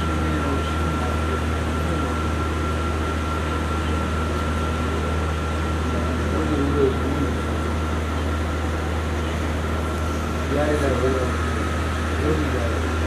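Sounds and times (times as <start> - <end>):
high-pitched whine: 0.0 - 13.0
mechanical hum and whir: 0.0 - 13.0.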